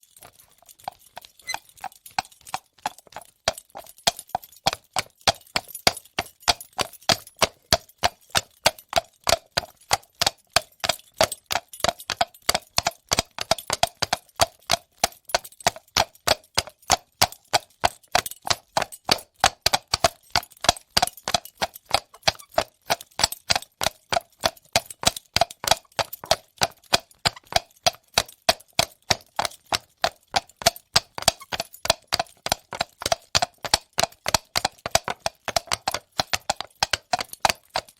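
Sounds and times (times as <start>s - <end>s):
horse hooves clip-clopping on pavement: 0.0s - 37.9s.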